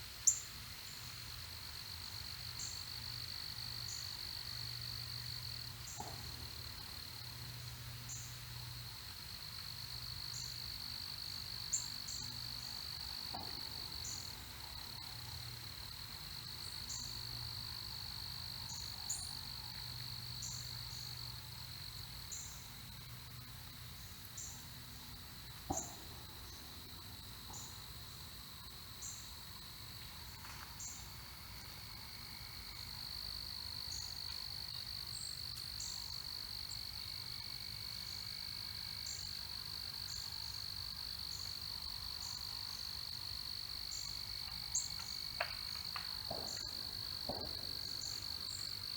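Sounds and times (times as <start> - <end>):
high-pitched insect trill: 2.0 - 48.9.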